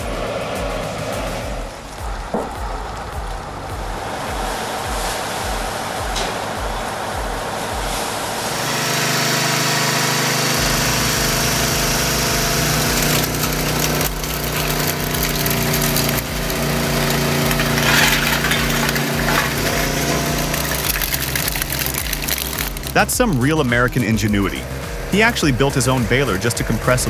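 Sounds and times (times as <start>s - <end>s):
hissing grinding surge: 0.0s - 27.0s
machine engine running under load: 3.0s - 27.0s.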